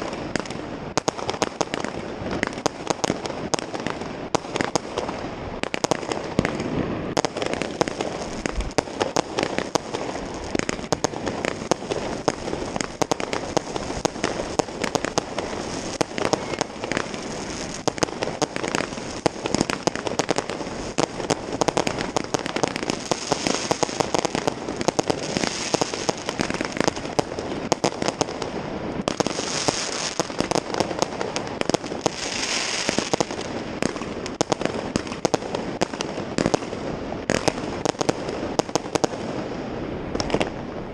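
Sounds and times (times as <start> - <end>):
fireworks banging and crackling: 0.0 - 40.9
fireworks hissing: 0.0 - 40.9.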